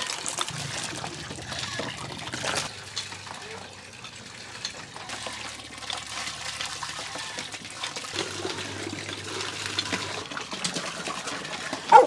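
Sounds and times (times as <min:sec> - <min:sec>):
water gushing into bucket: 0:00.0 - 0:12.0.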